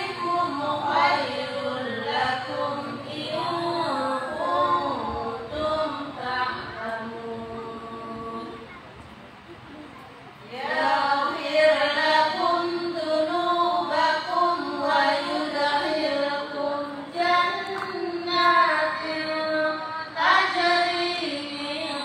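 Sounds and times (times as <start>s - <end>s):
women chanting recitation: 0.0s - 8.8s, 10.4s - 22.0s.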